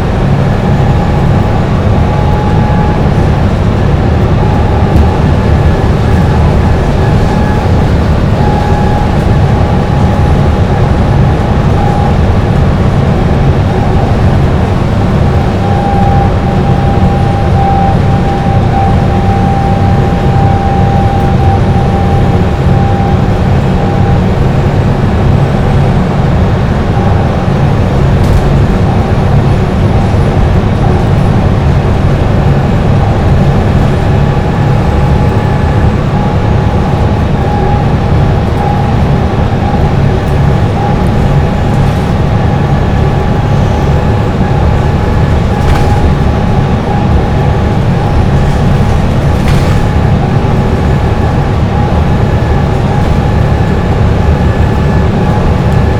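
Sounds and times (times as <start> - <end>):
bus engine running: 0.0 - 55.9.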